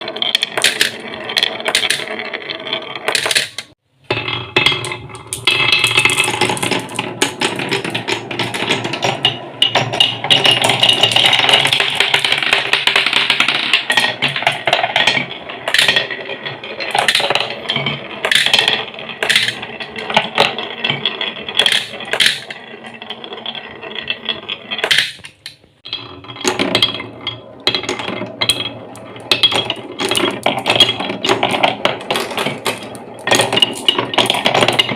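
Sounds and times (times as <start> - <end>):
marbles rattling down wooden run: 0.0 - 34.9.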